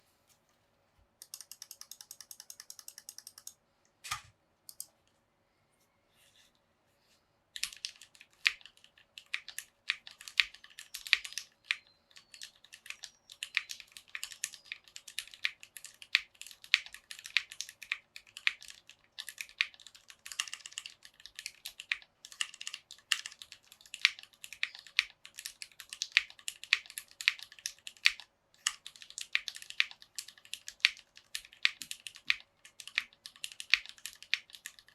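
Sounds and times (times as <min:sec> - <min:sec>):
mechanical keyboard typing: 0:01.2 - 0:03.6, 0:04.7 - 0:05.0, 0:07.6 - 0:34.9.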